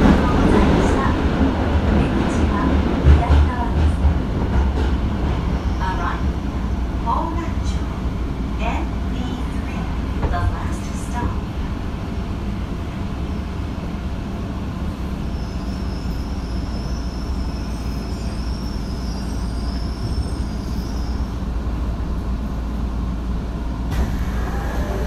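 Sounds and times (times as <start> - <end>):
subway train rumble and hum: 0.0 - 25.0.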